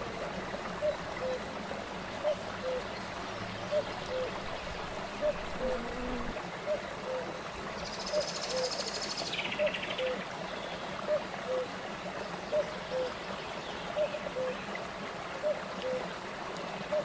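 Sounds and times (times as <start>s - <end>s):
stream over rock cascades: 0.0s - 17.0s.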